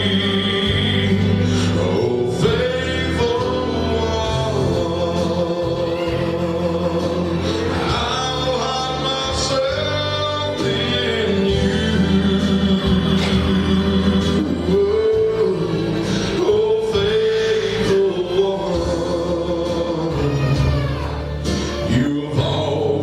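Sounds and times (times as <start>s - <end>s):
slow gospel song with band: 0.0s - 23.0s.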